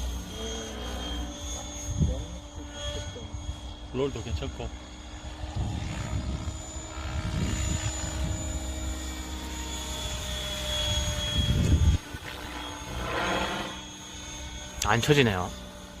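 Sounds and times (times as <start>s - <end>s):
rc helicopter whirring: 0.0s - 16.0s.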